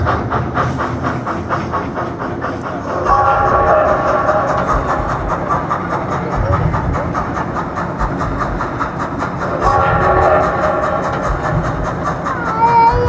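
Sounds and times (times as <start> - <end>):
train wheels clickety-clack: 0.0 - 13.0.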